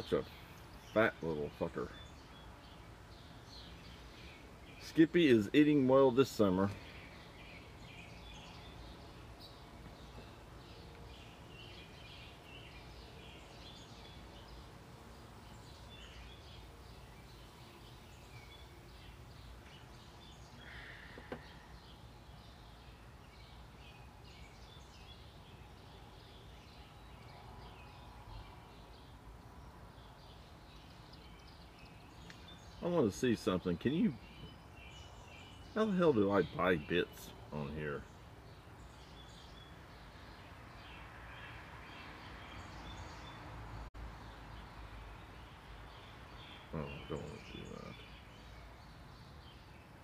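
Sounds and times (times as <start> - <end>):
low background noise: 0.0 - 50.0
small birds chirping: 0.0 - 50.0.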